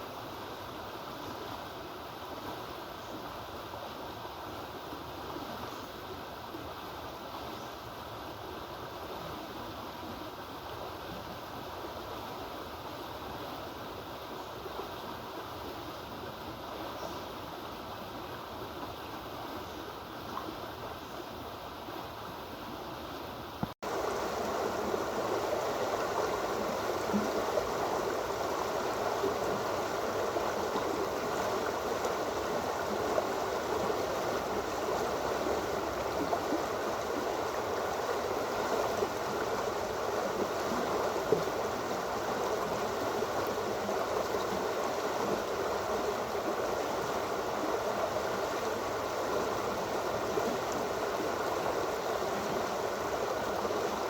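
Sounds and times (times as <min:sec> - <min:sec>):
floodwater rushing and gurgling: 0:00.0 - 0:54.0.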